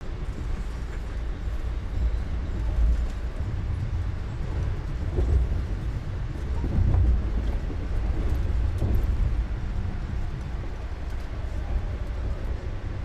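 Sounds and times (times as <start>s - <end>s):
train running gear rumble: 0.0s - 13.0s.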